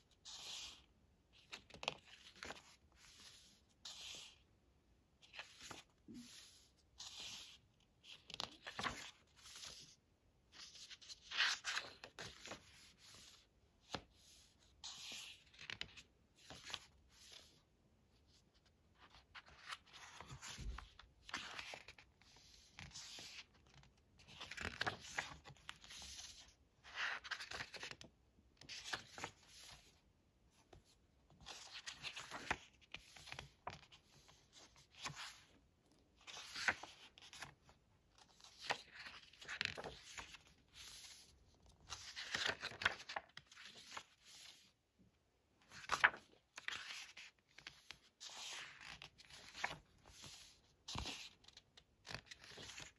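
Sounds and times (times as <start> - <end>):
book pages turning: 0.2 - 4.4, 5.2 - 44.7, 45.6 - 52.9
paper rustling and sliding: 5.2 - 17.6, 18.3 - 30.0, 30.6 - 35.5, 36.2 - 37.6, 38.2 - 44.7, 45.7 - 52.9.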